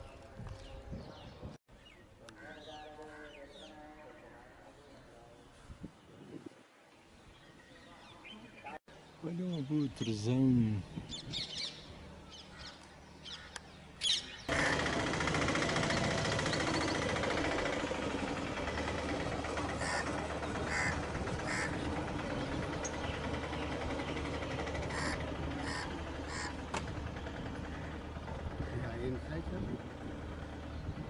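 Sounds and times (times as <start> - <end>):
harsh bird calls: 0.0 - 4.6, 7.3 - 29.2.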